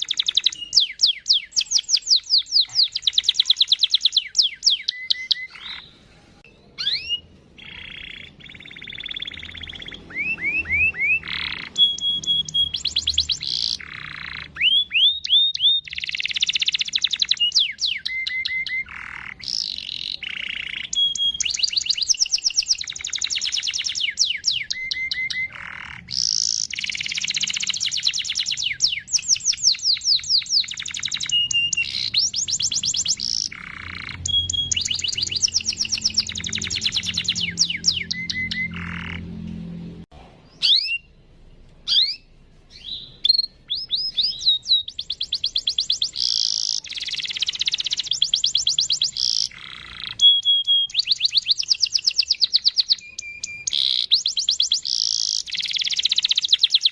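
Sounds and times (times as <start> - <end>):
canary singing trills: 0.0 - 39.7, 40.5 - 41.2, 41.8 - 56.9.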